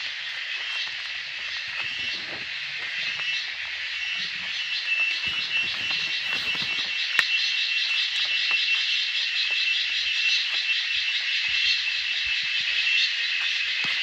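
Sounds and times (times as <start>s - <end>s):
frogs or insects trilling: 0.0s - 14.0s.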